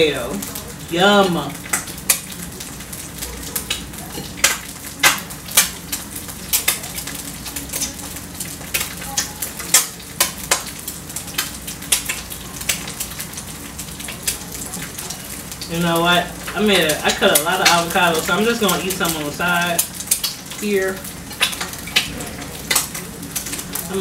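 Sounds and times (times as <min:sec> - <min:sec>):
egg sizzling in a skillet: 0:00.0 - 0:24.0
sharp pops and crackles: 0:01.5 - 0:24.0.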